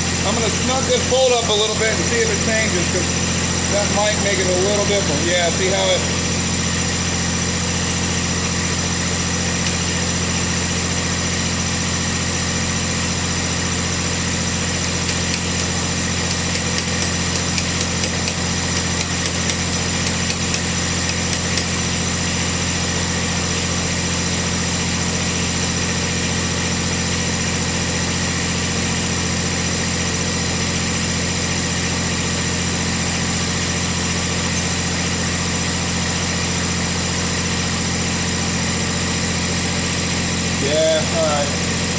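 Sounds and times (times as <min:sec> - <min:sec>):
garden tractor engine running: 0:00.0 - 0:41.9.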